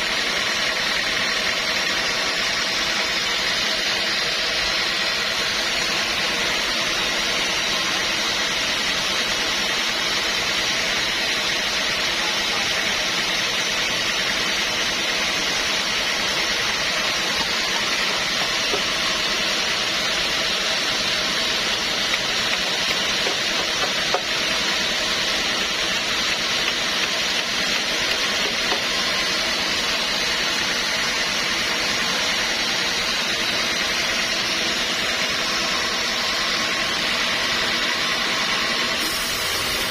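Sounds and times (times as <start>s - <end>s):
sawmill machinery hiss: 0.0s - 39.9s.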